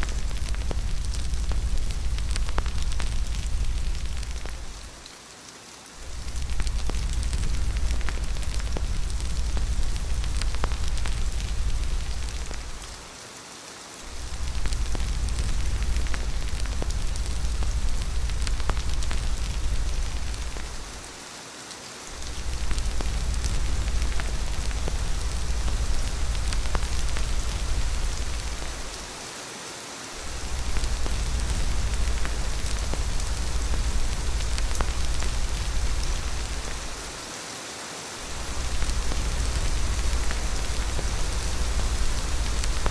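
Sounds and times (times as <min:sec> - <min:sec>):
deep low rumble: 0:00.0 - 0:05.0, 0:06.0 - 0:13.0, 0:14.1 - 0:21.0, 0:22.2 - 0:29.2, 0:30.2 - 0:37.1, 0:38.3 - 0:42.9
steady rain: 0:00.0 - 0:42.9.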